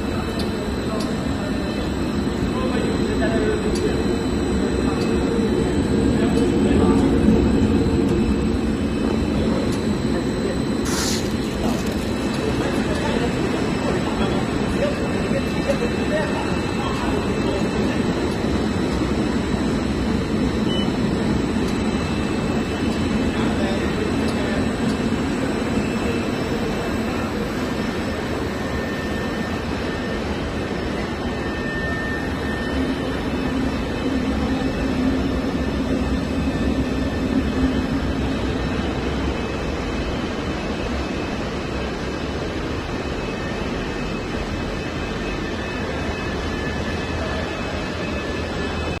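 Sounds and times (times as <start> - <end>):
faint high whines: 0.0 - 49.0
steady machinery noise: 0.0 - 49.0.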